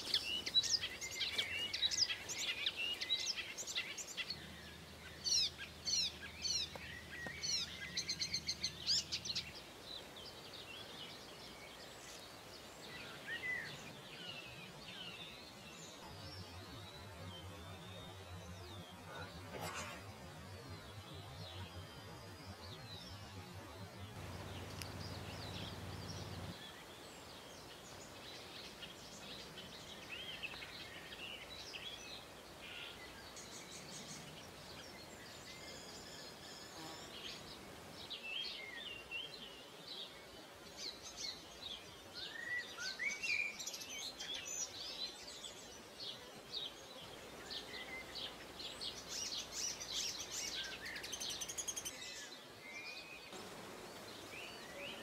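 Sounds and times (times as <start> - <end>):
faint steady hiss: 0.0 - 55.0
songbirds singing and chirping: 0.0 - 55.0.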